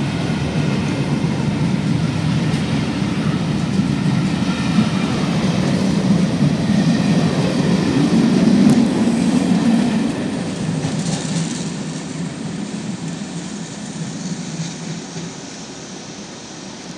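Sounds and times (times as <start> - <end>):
train coaches rolling past: 0.0 - 16.9.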